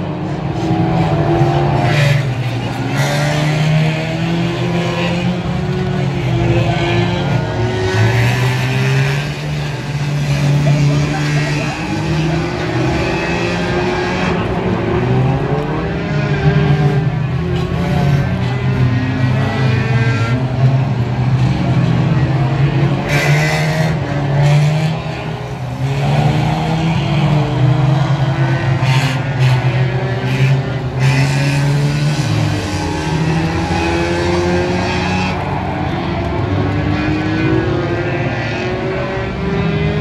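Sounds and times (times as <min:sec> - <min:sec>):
race car engines revving: 0:00.0 - 0:40.0.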